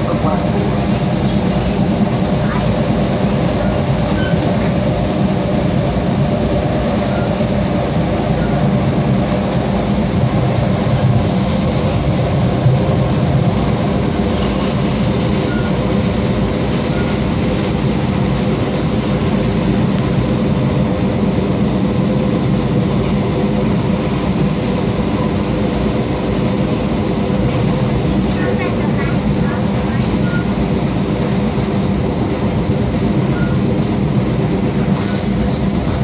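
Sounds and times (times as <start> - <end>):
train rumbling through tunnel: 0.0 - 36.0.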